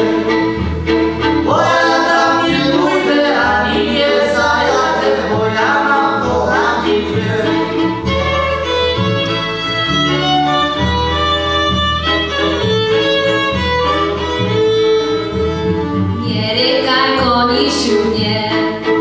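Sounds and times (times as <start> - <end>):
folk band playing: 0.0 - 19.0.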